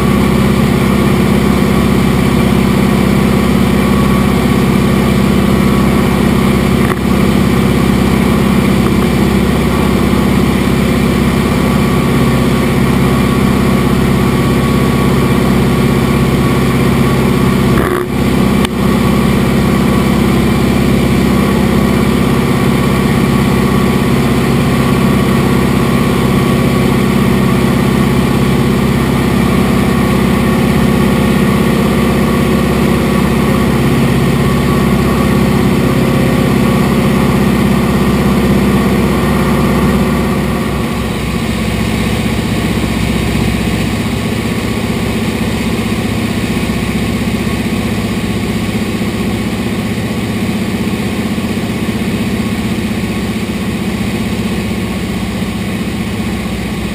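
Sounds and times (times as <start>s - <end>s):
propeller plane engine droning: 0.0s - 56.9s.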